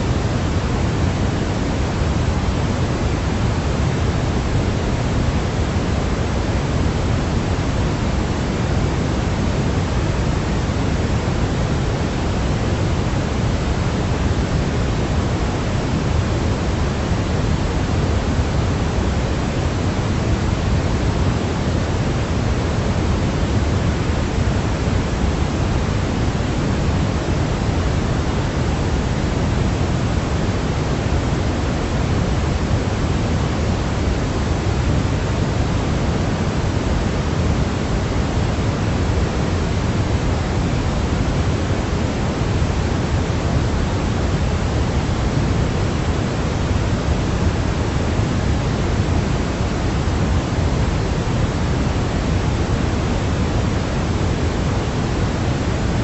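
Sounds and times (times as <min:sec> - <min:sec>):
low white noise hiss: 0:00.0 - 0:56.0.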